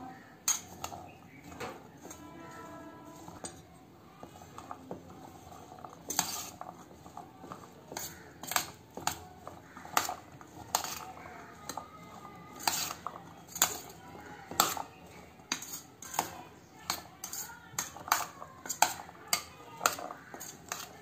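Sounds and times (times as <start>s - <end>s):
spoon scraping and shuffling food: 0.0s - 21.0s
metal spoon clinking steel bowl: 0.1s - 21.0s.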